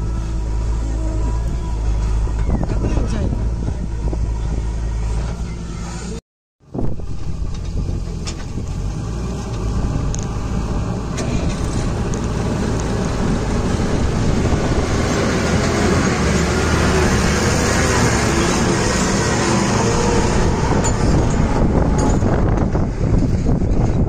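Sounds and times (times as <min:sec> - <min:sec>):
lorry engine under load: 0:00.0 - 0:24.0.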